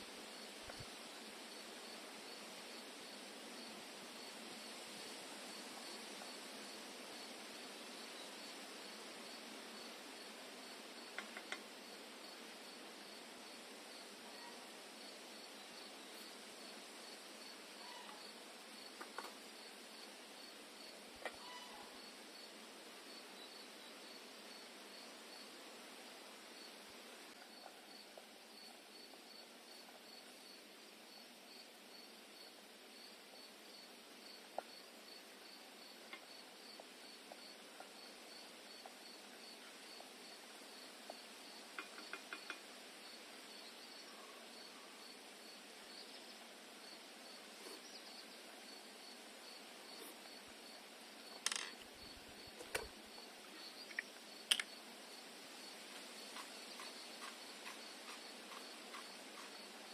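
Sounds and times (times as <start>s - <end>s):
faint cricket chirping: 0.0s - 59.9s
low hiss: 0.0s - 59.9s.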